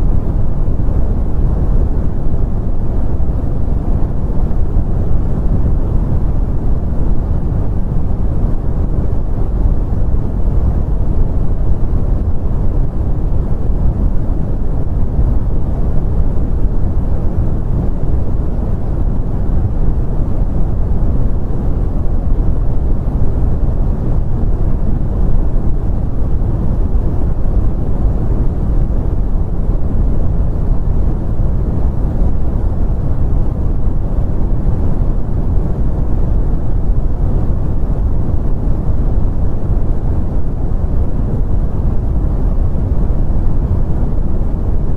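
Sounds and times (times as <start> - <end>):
brown noise: 0.0 - 44.9.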